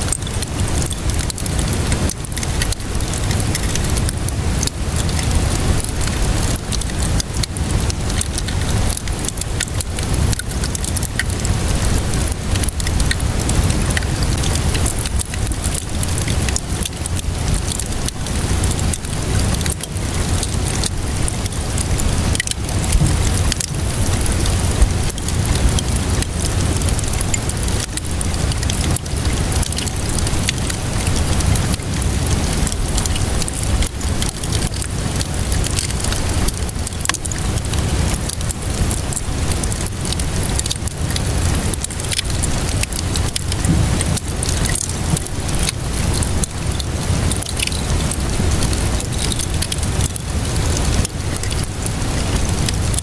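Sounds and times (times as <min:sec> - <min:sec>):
steady rainfall: 0:00.0 - 0:53.0
wood fire crackling: 0:00.0 - 0:53.0.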